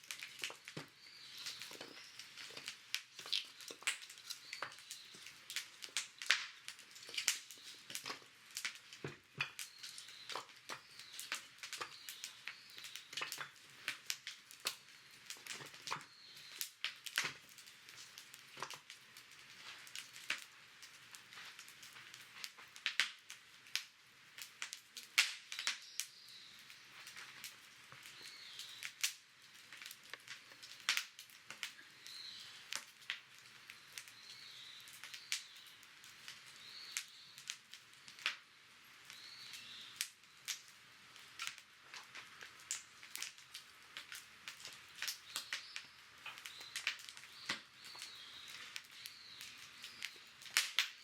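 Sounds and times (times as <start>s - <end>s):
dry wood crackling and snapping: 0.0s - 51.0s.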